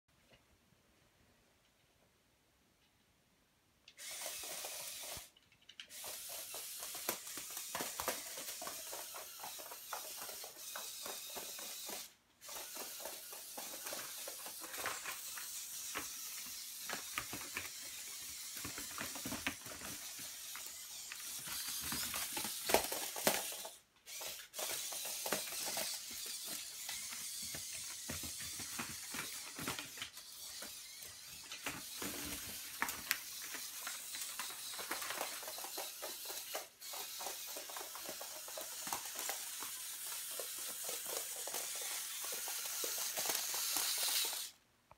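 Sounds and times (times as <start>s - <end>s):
plastic robot legs clattering: 4.0s - 44.6s.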